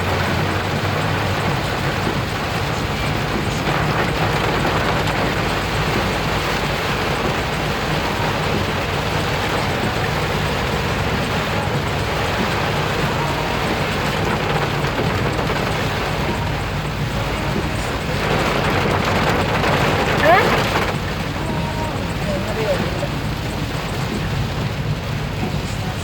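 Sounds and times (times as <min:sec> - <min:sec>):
low vehicle hum: 0:00.0 - 0:26.0
rain and wet road noise: 0:00.0 - 0:26.0.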